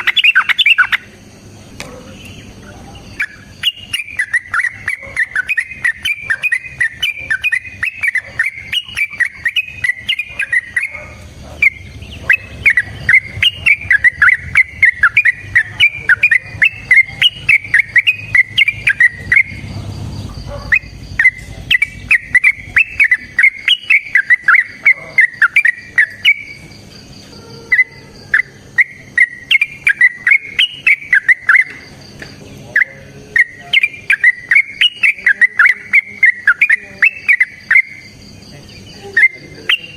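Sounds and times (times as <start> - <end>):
bird warbled chattering song: 0.0 - 39.9.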